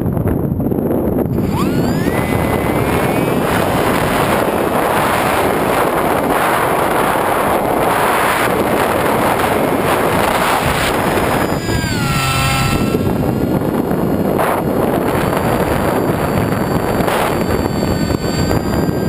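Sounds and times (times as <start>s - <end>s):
wind rush on microphone: 0.0s - 19.0s
electric motor and propeller whine: 0.7s - 19.0s.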